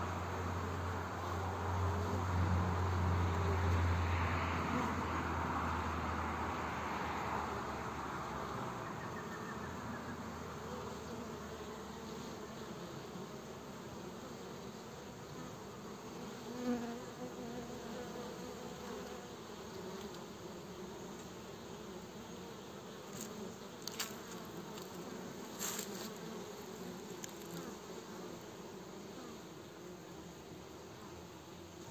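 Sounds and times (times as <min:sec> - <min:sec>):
bee flying close past: 0:00.0 - 0:31.9
bees buzzing: 0:00.0 - 0:31.9.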